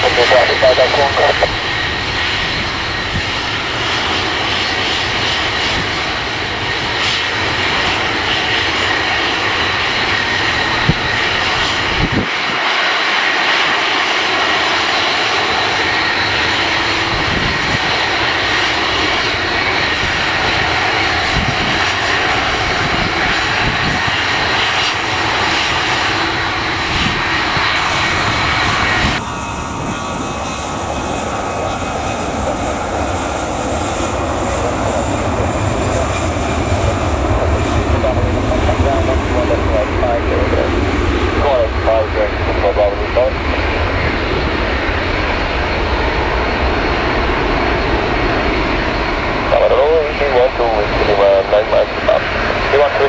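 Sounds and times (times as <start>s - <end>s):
wind on microphone: 0.0s - 12.6s, 15.9s - 32.8s, 33.6s - 53.0s
airliner engines whining: 0.0s - 53.0s.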